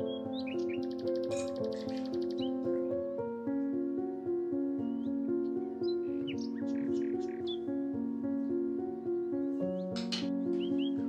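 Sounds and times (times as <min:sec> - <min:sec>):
bird chirps: 0:00.0 - 0:03.2, 0:04.8 - 0:11.0
held keyboard notes: 0:00.0 - 0:11.0.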